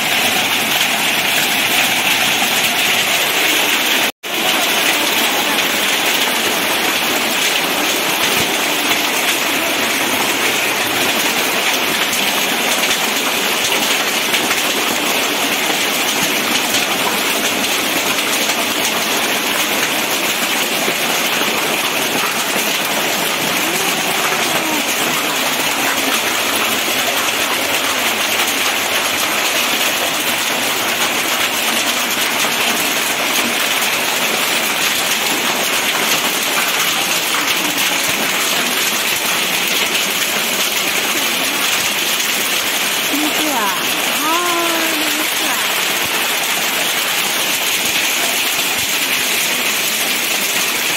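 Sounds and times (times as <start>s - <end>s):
heavy rain on concrete: 0.0s - 50.9s.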